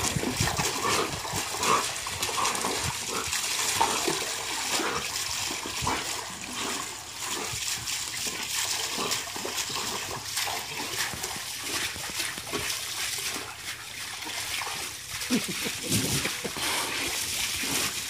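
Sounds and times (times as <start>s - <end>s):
dog splashing through water: 0.0s - 18.0s
hose spraying water: 0.0s - 18.0s.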